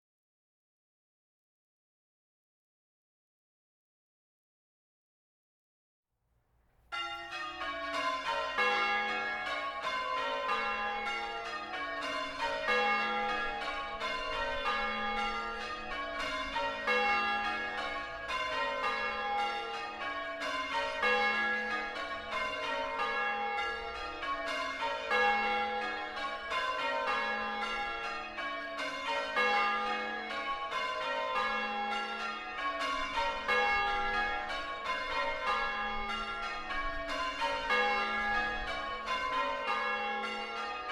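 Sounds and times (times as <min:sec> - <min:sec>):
church bells ringing: 0:06.9 - 0:40.9.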